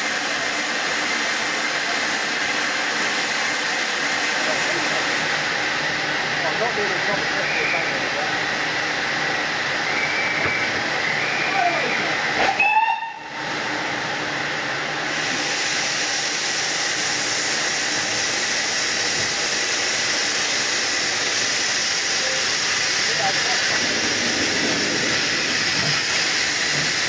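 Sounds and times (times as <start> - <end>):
steam hissing: 0.0 - 27.0.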